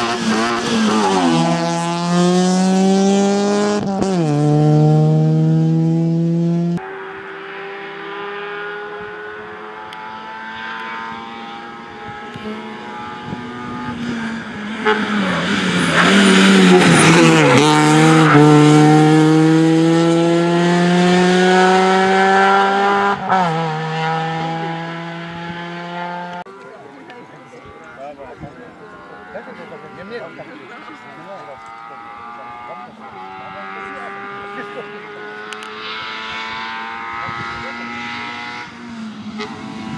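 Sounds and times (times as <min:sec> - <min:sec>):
rally car engine at full throttle: 0:00.0 - 0:39.9.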